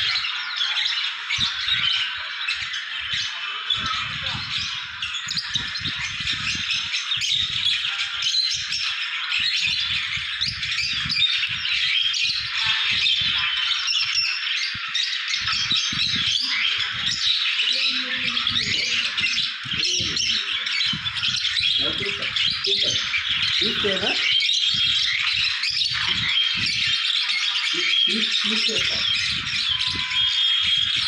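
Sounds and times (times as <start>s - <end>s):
caged birds chattering and squawking: 0.0s - 31.0s.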